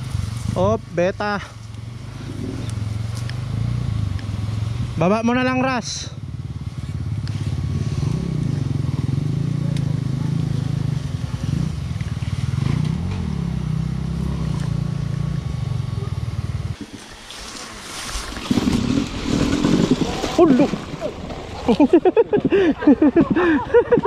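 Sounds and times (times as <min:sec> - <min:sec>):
dirt bike engine running: 0:00.0 - 0:17.1, 0:18.0 - 0:24.0.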